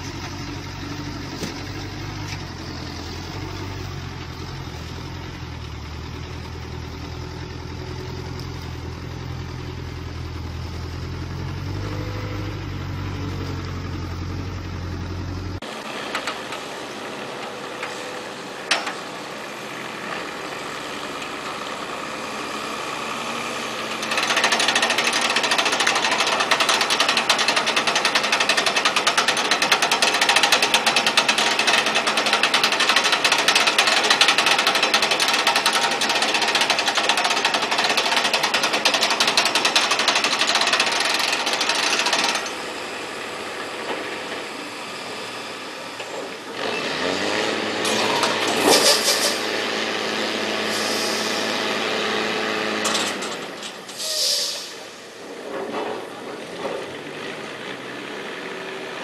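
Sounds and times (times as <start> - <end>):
diesel engine rattling: 0.0 - 59.0.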